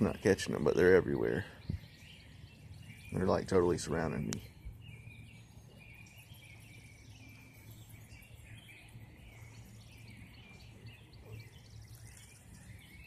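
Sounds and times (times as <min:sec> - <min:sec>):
birds chirping: 0:00.0 - 0:13.0
faint low background hum: 0:00.0 - 0:13.0.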